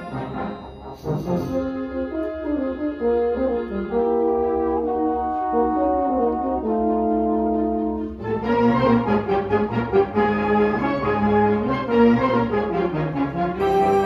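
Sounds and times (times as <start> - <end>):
concert band brass chords: 0.0 - 14.0
french horns: 0.0 - 14.0.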